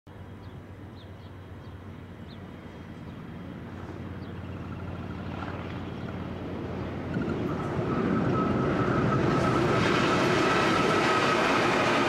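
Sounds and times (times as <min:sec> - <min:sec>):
diesel locomotive engines humming: 0:00.1 - 0:12.0.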